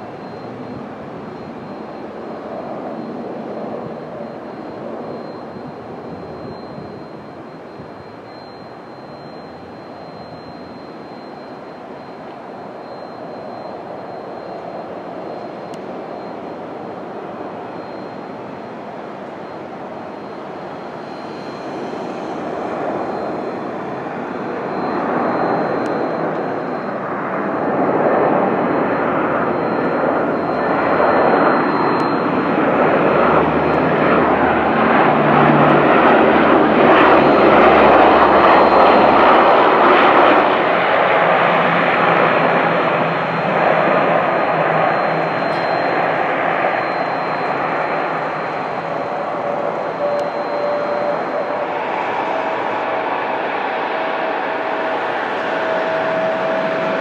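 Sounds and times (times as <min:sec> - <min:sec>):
turboprop aircraft engines droning: 0:00.0 - 0:57.0.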